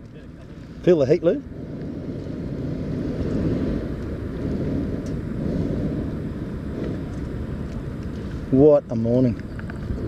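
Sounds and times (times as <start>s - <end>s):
propane burner rushing: 0.2s - 10.0s.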